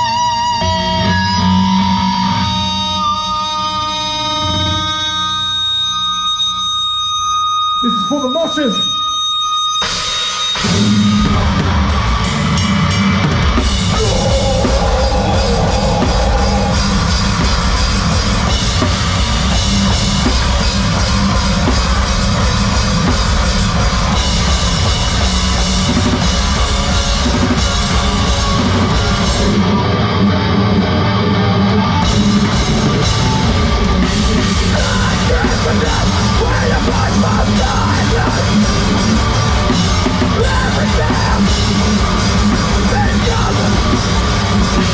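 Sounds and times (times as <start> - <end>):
heavy rock band playing live: 0.0 - 8.9, 9.6 - 44.9.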